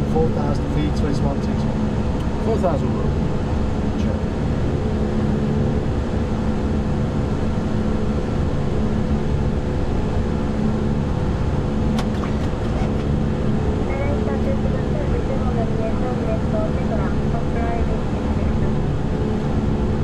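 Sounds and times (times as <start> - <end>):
air and engine rush: 0.0 - 20.0
constant low hum: 0.0 - 20.0.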